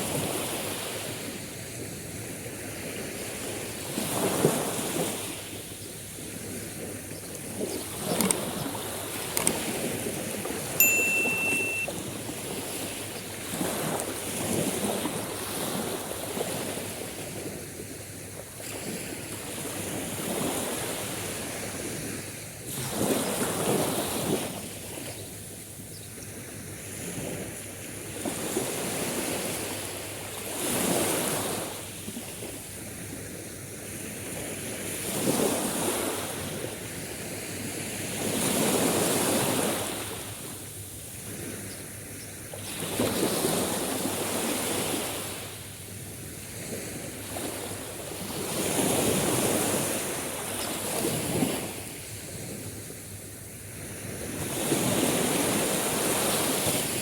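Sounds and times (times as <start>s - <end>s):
sea waves breaking on shore: 0.0s - 25.6s, 26.2s - 57.0s.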